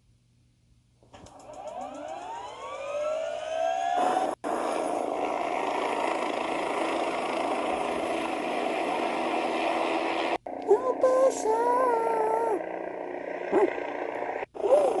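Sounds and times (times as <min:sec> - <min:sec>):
helicopter turbine whine: 0:01.3 - 0:15.0.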